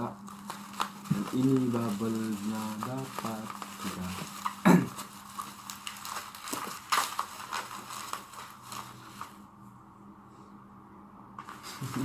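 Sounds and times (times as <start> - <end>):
bubble wrap crinkling and rustling: 0.0 - 9.5, 11.4 - 12.0.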